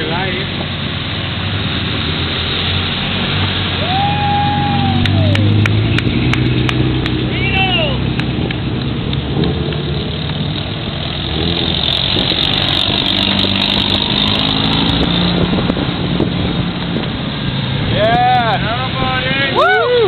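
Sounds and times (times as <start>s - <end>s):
race car engines at low speed: 0.0s - 20.0s.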